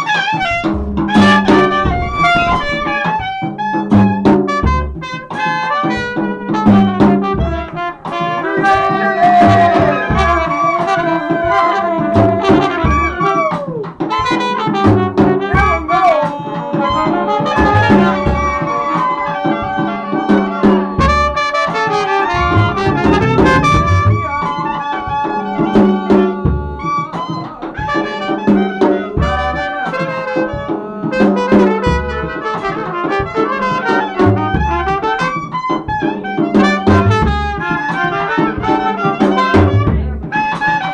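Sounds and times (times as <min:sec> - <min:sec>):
drums keeping time: 0:00.0 - 0:40.9
trumpet playing melodic lines: 0:00.0 - 0:40.9
plucked upright bass: 0:00.5 - 0:05.1, 0:06.3 - 0:33.0, 0:39.1 - 0:40.6.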